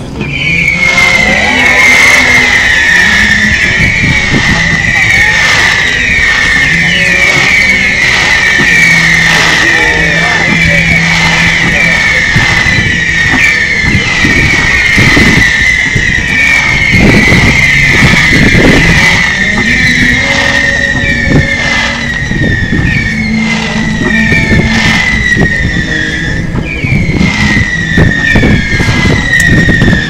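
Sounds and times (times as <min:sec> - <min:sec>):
firework bangs and crackles: 0:00.0 - 0:30.0
whistling fireworks: 0:00.0 - 0:30.0.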